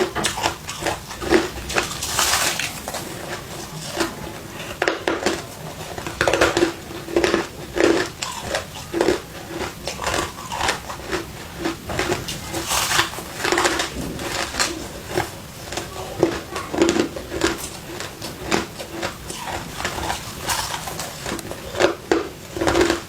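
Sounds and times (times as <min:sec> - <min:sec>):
crushed ice being chewed: 0:00.0 - 0:23.0.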